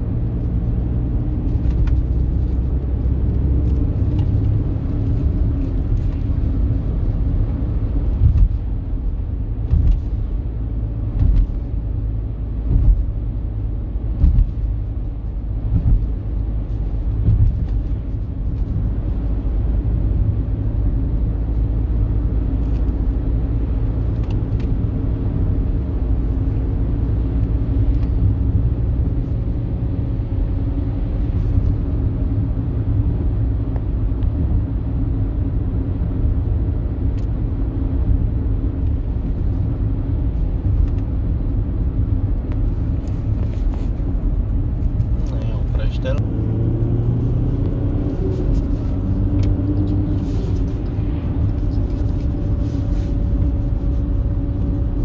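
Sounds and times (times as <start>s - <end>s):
engine and road rumble in car: 0.0s - 55.0s.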